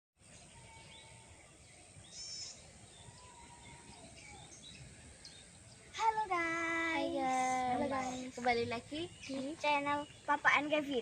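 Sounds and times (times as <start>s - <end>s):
birds chirping: 0.2s - 11.0s
faint outdoor background noise: 0.2s - 11.0s.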